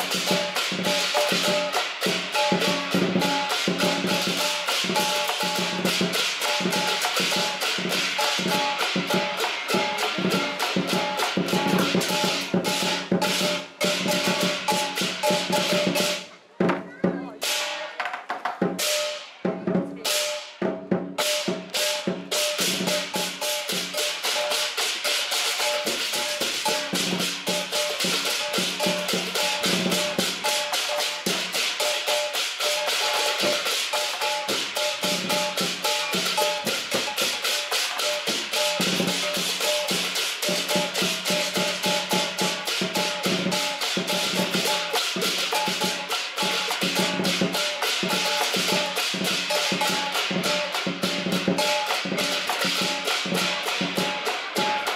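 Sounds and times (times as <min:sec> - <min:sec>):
cymbals clashing: 0:00.0 - 0:16.4, 0:17.4 - 0:54.9
big drum beating: 0:00.0 - 0:54.9.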